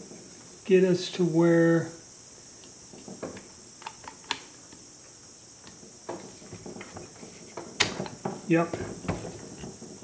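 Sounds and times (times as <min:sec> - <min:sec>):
steady high-pitched hiss: 0:00.0 - 0:10.0.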